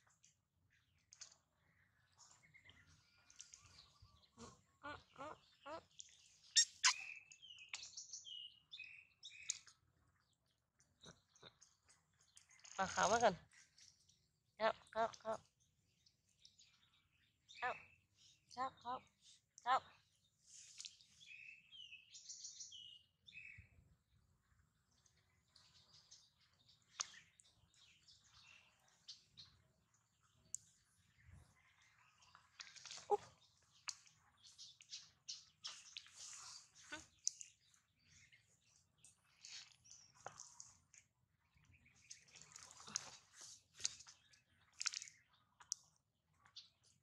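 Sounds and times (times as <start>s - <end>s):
songbird singing: 0.1s - 47.0s.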